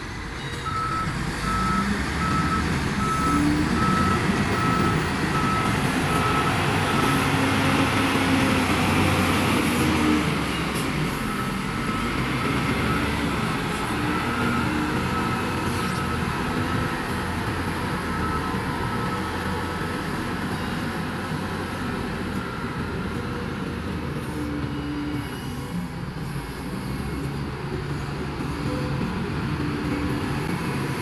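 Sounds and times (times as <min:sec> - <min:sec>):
diesel engines running: 0:00.0 - 0:31.0.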